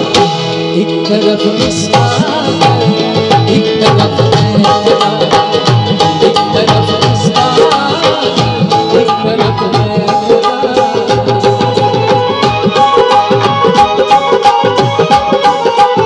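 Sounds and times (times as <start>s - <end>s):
tabla playing: 0.0s - 16.0s.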